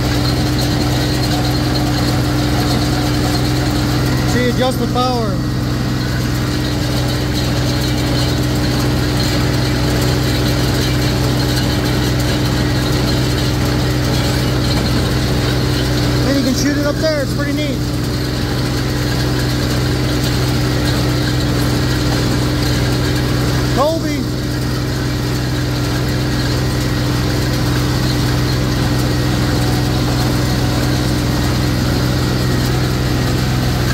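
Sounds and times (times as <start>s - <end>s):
tractor and baler droning: 0.0s - 33.9s.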